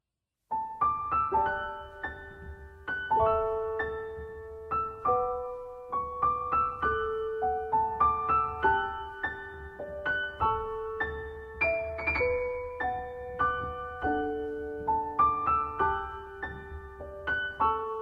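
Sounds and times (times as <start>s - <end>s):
gentle piano music: 0.5s - 18.0s.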